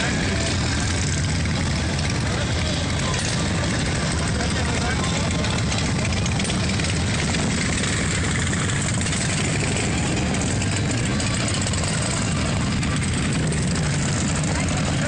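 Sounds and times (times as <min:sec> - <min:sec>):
motorcycles rolling past: 0:00.0 - 0:15.0.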